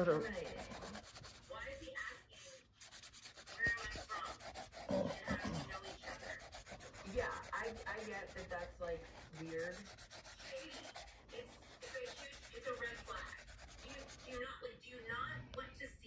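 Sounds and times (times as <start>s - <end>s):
paintbrush scrubbing on paper: 0.0s - 14.6s.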